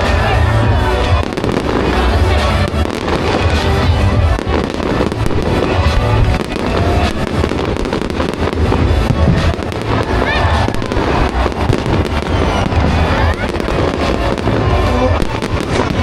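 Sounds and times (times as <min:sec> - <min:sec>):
fireworks bursting and crackling: 0:00.0 - 0:16.0
music with pulsing bass: 0:00.0 - 0:16.0.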